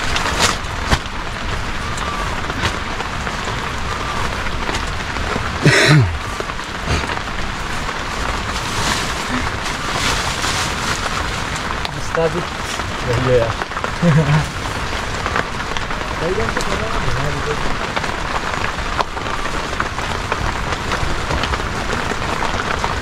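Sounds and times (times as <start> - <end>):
rain on a tarpaulin: 0.0 - 23.0.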